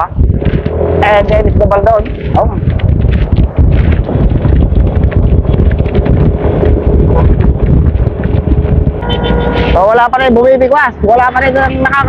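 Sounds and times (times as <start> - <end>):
wind noise on microphone: 0.0 - 12.0
rapid irregular ticking: 0.4 - 12.0.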